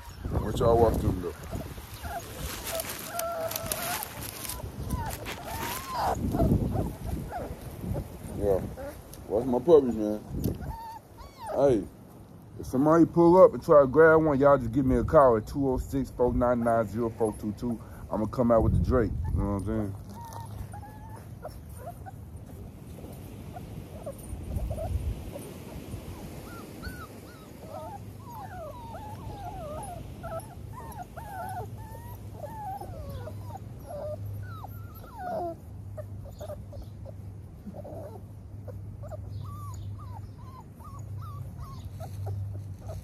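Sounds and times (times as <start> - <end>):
puppies whimpering and whining: 0.0 - 12.0, 13.3 - 43.0.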